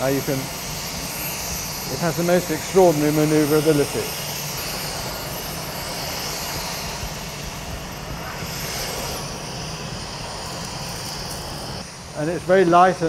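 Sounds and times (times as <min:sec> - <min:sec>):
cordless vacuum cleaner running: 0:00.0 - 0:13.0.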